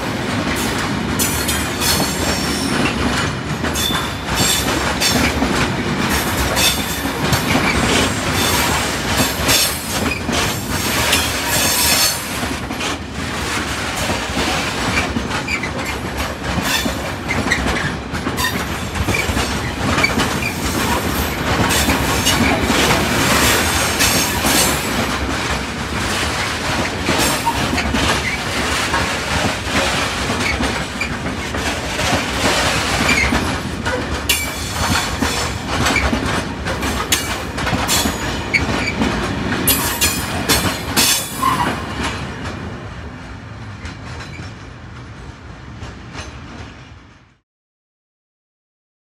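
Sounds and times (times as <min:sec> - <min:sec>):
train wheels clattering on rails: 0:00.0 - 0:47.3.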